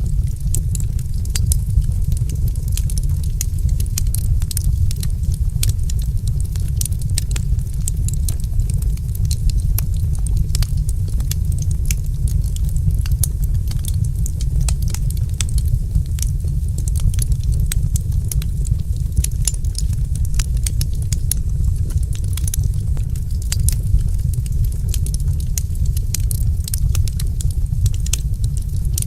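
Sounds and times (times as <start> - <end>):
fire popping and snapping: 0.0 - 29.0
low rumble of burning fire: 0.0 - 29.0
wood fire crackling: 0.0 - 29.0.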